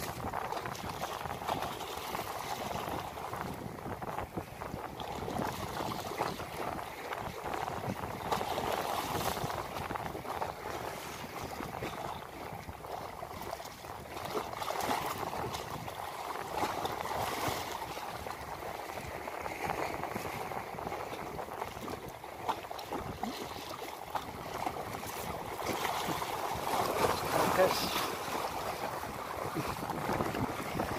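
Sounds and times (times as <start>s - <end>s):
waves lapping against seawall: 0.0s - 30.9s.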